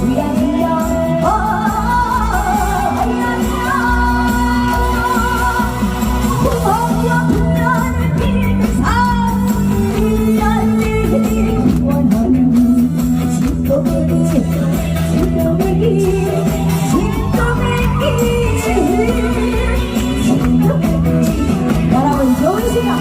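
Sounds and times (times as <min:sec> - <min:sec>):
band accompaniment: 0:00.0 - 0:23.0
woman singing: 0:00.0 - 0:23.0.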